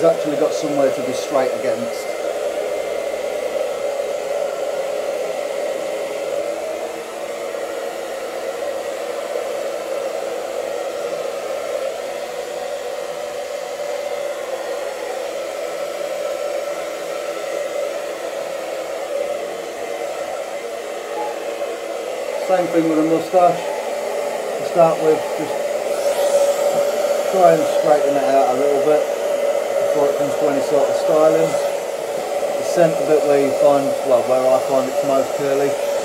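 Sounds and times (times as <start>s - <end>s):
hair dryer running: 0.0s - 36.0s.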